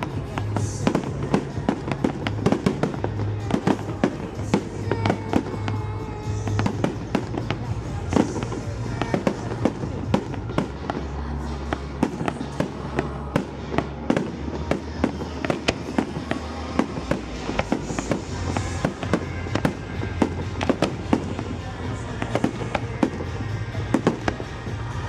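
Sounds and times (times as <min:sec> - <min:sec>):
fireworks bangs and cracks: 0:00.0 - 0:25.0.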